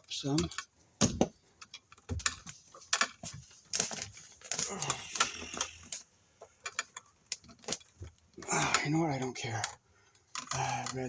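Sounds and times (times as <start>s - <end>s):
clicks and rustling of wiring: 0.0s - 11.0s.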